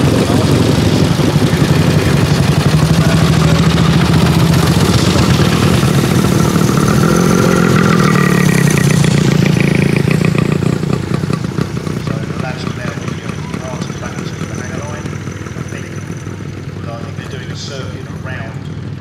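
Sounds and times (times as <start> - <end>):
propeller plane engine running: 0.0 - 19.0.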